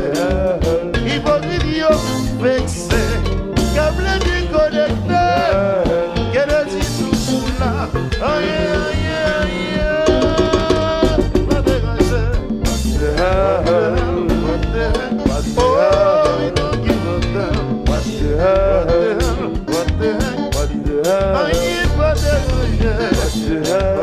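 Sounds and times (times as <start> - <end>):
bass: 0.0 - 24.0
man singing: 0.0 - 24.0
steady drum beat: 0.0 - 24.0.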